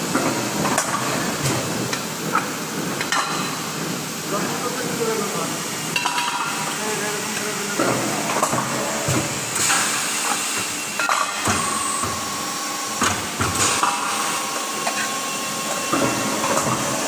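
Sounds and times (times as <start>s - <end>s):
metalworking machinery running: 0.0s - 17.0s.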